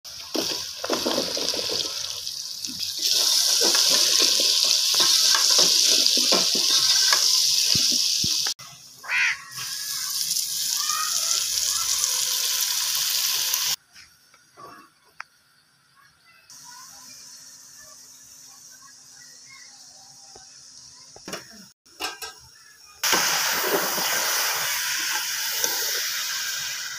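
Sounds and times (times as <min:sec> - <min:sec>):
food sizzling in metal pot: 0:00.1 - 0:13.8, 0:16.5 - 0:26.9.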